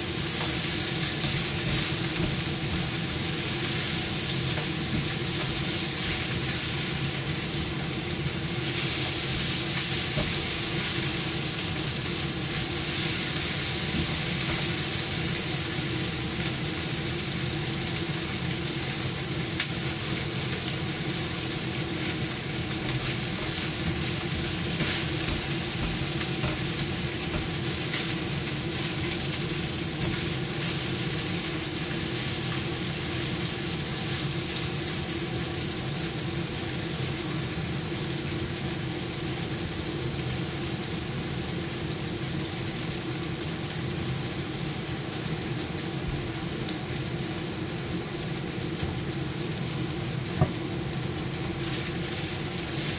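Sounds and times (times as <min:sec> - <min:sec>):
chicken sizzling in oil: 0:00.0 - 0:52.9.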